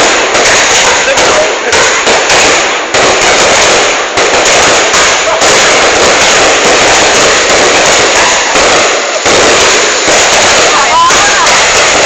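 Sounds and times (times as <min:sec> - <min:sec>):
fireworks bursts: 0:00.0 - 0:12.0.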